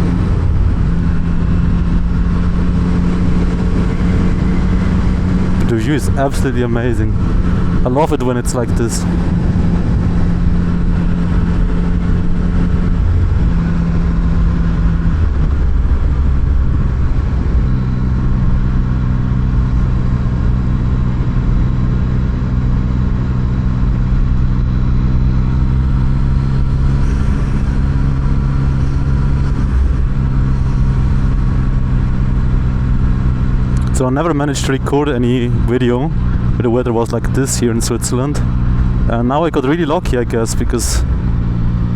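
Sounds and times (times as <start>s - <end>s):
low rumble of wind noise: 0.0s - 41.9s
motorcycle engine running: 0.0s - 41.9s.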